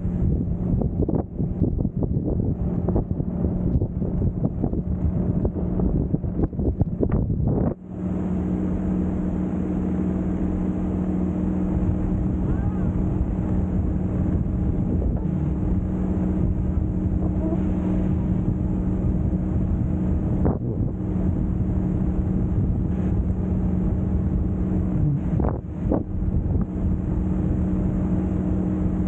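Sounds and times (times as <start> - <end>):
steady low drone: 0.0 - 29.0
wind buffeting microphone: 0.0 - 29.0.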